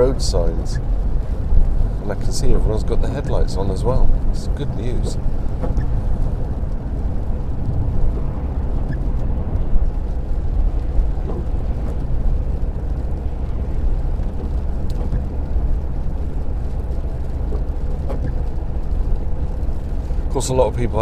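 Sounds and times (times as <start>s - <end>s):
car engine and tyres on wet road: 0.0s - 21.0s.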